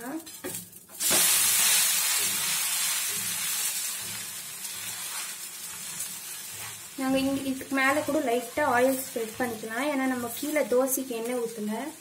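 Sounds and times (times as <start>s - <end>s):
food sizzling on a hot pan: 0.0s - 12.0s.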